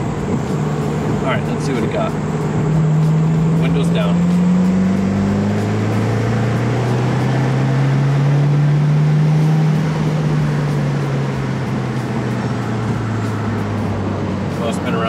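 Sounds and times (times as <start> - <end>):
car exhaust accelerating: 0.0 - 15.0
road and wind noise: 0.0 - 15.0.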